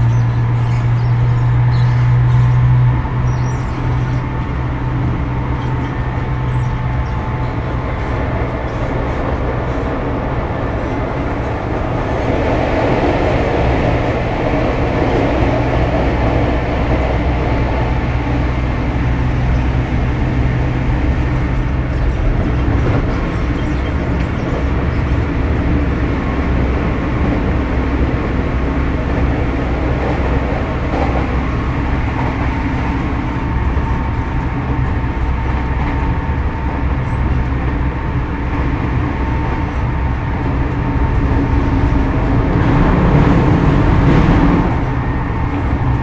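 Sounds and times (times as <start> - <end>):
train wheel and rail noise: 0.0 - 46.0.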